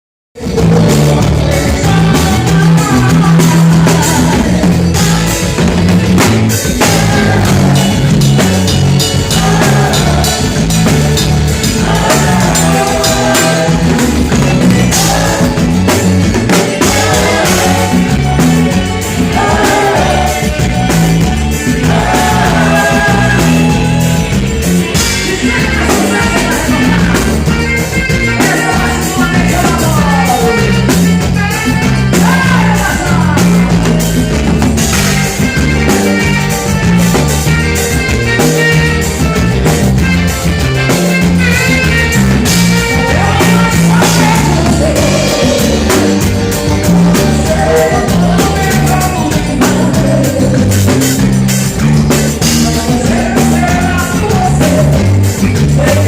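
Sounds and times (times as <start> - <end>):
person singing: 0.4 - 5.9, 6.6 - 34.2, 42.6 - 51.3, 52.1 - 56.0
band playing loud music: 0.4 - 56.0.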